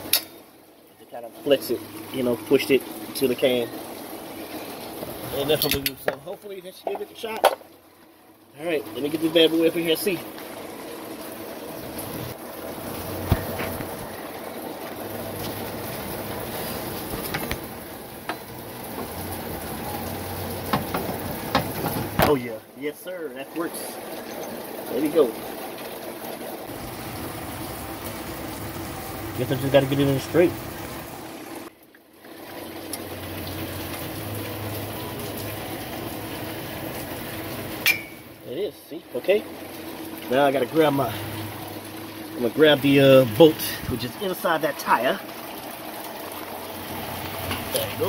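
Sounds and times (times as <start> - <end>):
steady rain falling: 8.5 - 31.7, 32.3 - 48.0.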